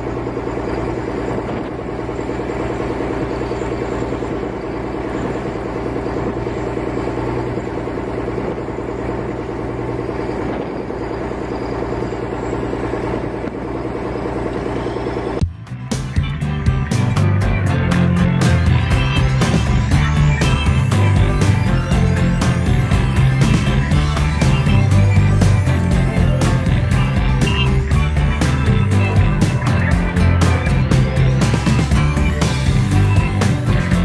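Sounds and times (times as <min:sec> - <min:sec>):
heavy machine engine running: 0:00.0 - 0:34.0.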